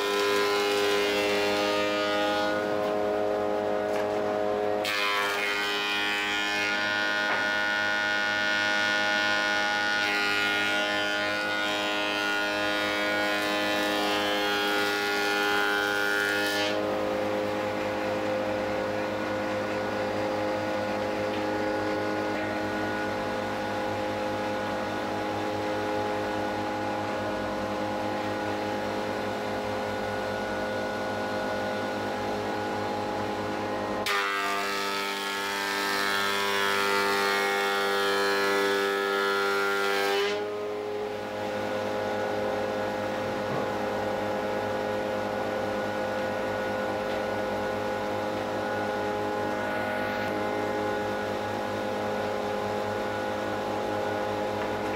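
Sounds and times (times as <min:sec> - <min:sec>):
planer motor whine: 0:00.0 - 0:54.9.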